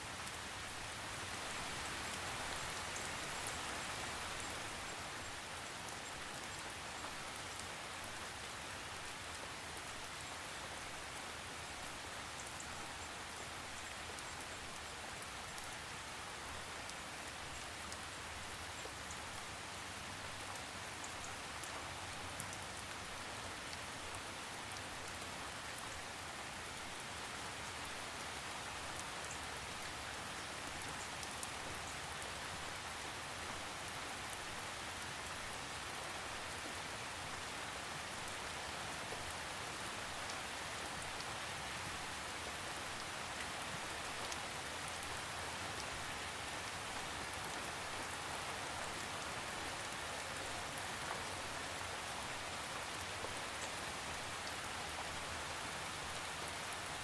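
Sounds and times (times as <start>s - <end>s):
scattered rain patters: 0.0s - 57.0s
steady rain hiss: 0.0s - 57.0s.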